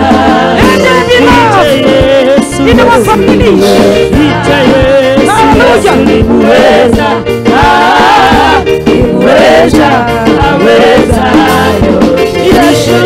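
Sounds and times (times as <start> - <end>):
gospel singing voices: 0.0 - 13.0
instrumental backing with percussion: 0.0 - 13.0.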